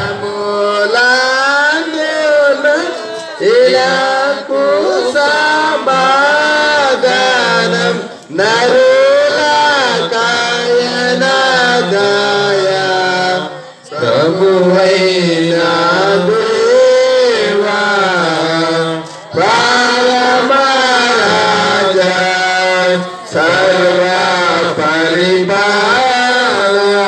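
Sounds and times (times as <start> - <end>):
congregation chanting liturgy: 0.0 - 27.0.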